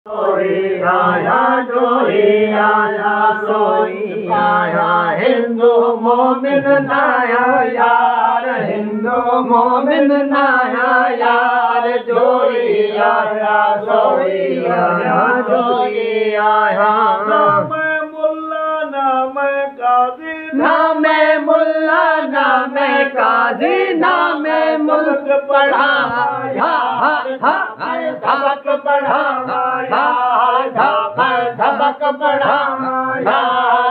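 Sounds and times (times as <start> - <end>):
men singing devotional chant: 0.1 - 33.9.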